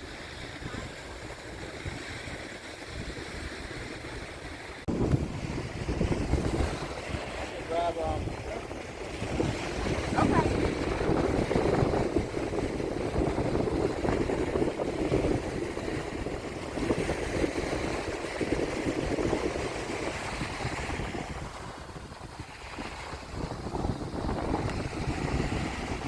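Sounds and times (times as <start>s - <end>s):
surf washing on beach: 0.0s - 26.0s
wind buffeting microphone: 0.0s - 26.0s.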